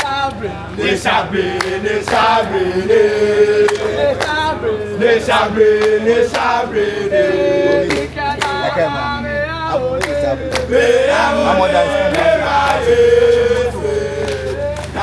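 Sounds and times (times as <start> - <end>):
group chanting in chorus: 0.0 - 15.0.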